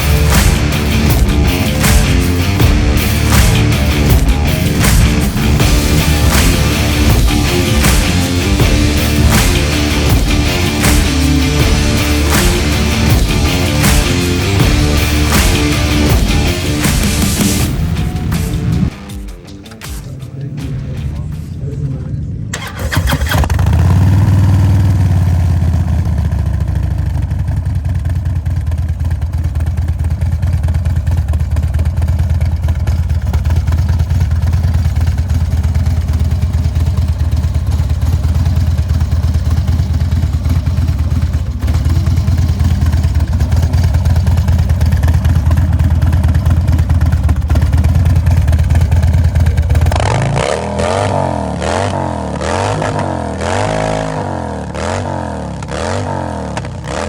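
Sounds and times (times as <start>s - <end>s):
engine revving: 0.0s - 26.6s, 35.4s - 57.0s
motorcycle engine idling: 0.0s - 57.0s.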